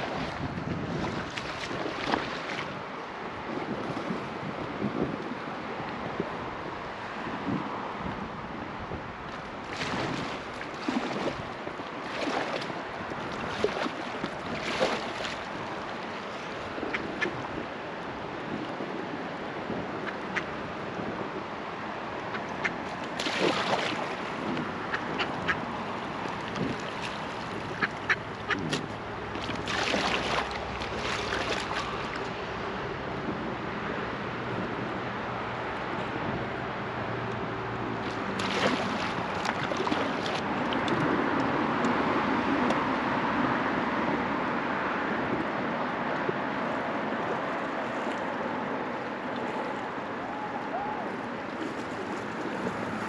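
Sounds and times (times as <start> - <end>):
soft water splashes: 0.0 - 6.0, 9.2 - 20.7, 21.6 - 33.0, 37.2 - 44.1, 46.0 - 53.0
river water rushing and lapping: 0.0 - 53.0.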